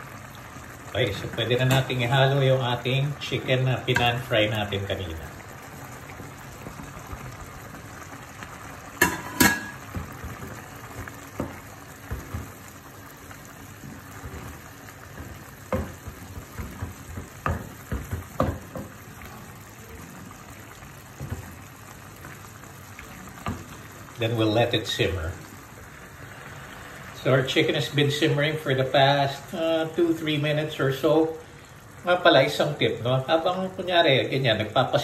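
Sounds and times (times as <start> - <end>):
sauce bubbling in a pan: 0.0 - 35.0.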